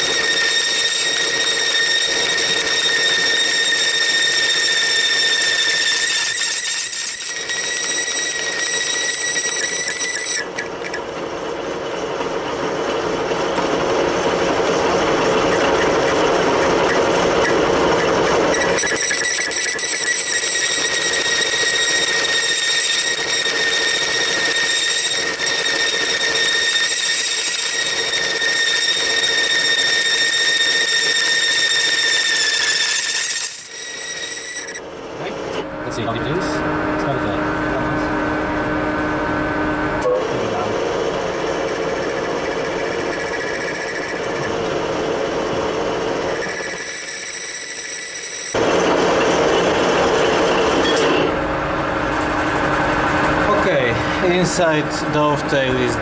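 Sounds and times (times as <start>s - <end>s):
lathe tool squealing: 0.0s - 56.0s.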